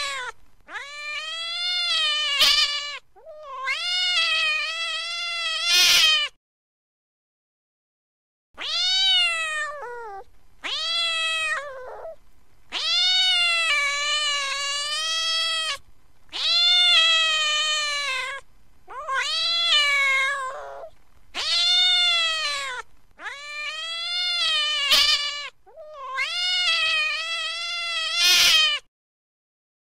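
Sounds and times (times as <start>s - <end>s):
cat meowing angrily: 0.0s - 6.4s, 8.6s - 28.9s.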